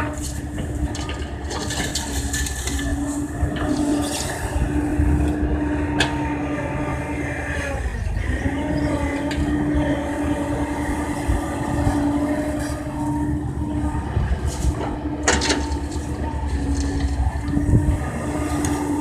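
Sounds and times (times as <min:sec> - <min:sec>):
excavator diesel engine running: 0:00.0 - 0:19.0
hydraulic whine: 0:00.0 - 0:19.0.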